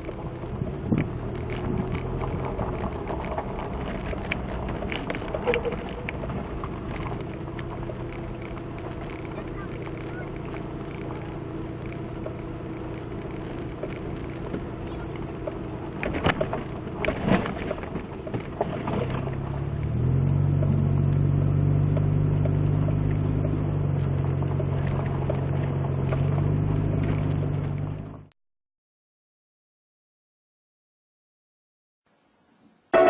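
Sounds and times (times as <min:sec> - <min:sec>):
low mechanical hum: 0:00.0 - 0:28.3.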